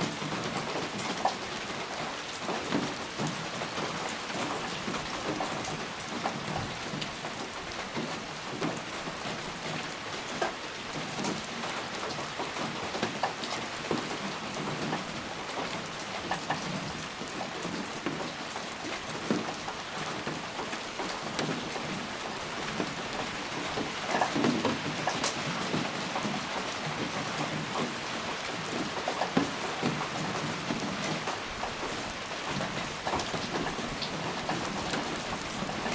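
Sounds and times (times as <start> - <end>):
steady rain hiss: 0.0 - 35.9.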